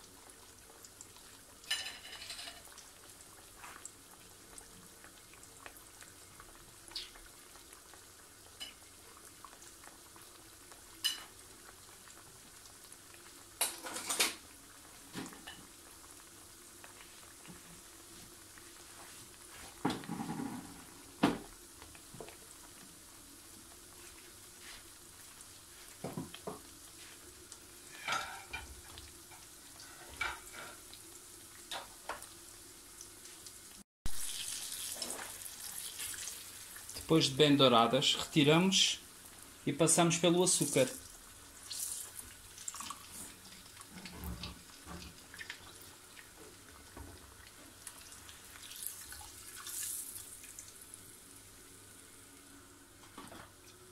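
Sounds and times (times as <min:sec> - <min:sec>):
pastries sizzling in hot oil: 0:00.0 - 0:53.9.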